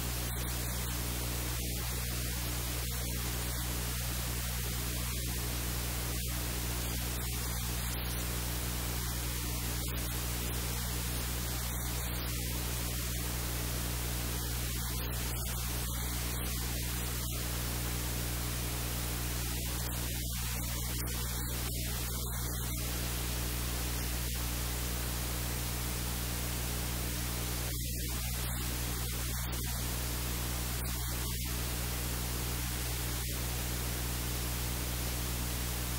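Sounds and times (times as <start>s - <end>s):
static hiss: 0.0s - 35.9s.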